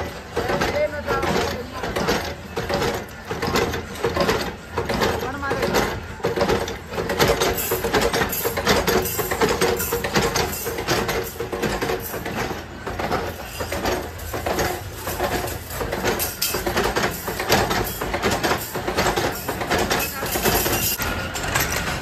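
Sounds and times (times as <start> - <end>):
machinery running: 0.0 - 22.0
steel clinking and clattering: 0.0 - 22.0.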